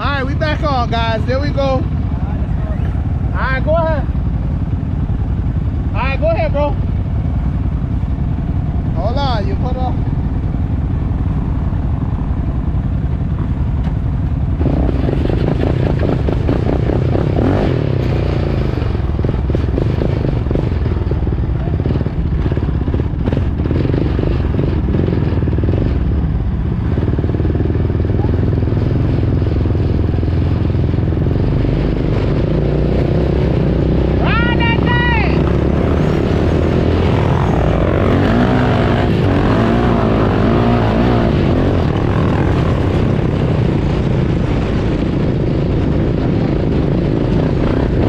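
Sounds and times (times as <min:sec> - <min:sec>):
all-terrain vehicle engine running: 0:00.0 - 0:48.0.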